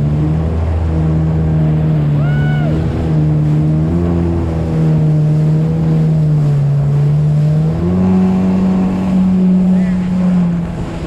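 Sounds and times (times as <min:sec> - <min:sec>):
watercraft engine running: 0:00.0 - 0:11.0.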